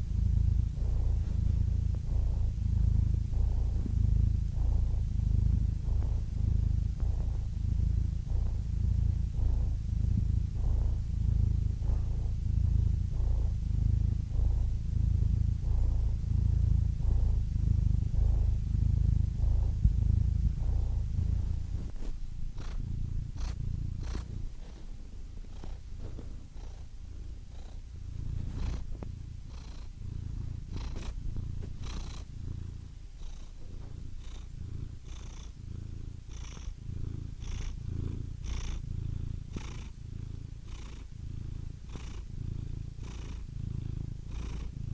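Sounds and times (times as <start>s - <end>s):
cat purring: 0.0s - 44.9s.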